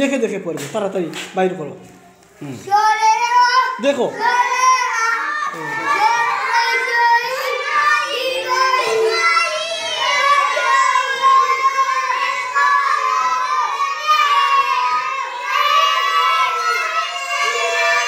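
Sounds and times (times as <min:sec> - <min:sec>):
children chanting together: 0:02.8 - 0:18.0.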